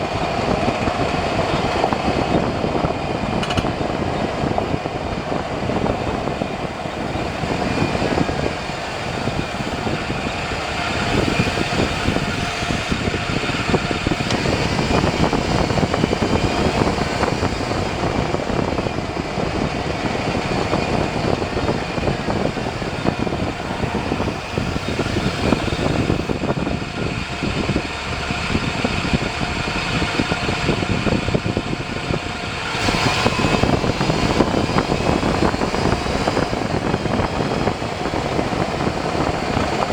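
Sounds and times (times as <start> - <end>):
faint vehicle whine: 0.0 - 39.9
road and wind noise: 0.0 - 39.9.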